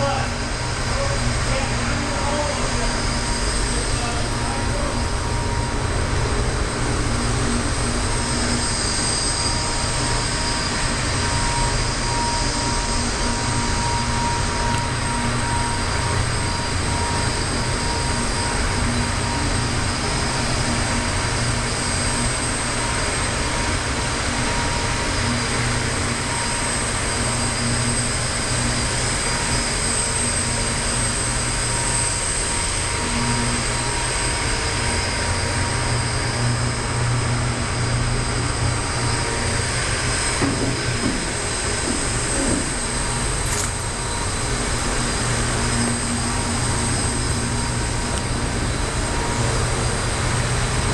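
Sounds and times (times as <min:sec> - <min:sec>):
steady mechanical drone: 0:00.0 - 0:50.9.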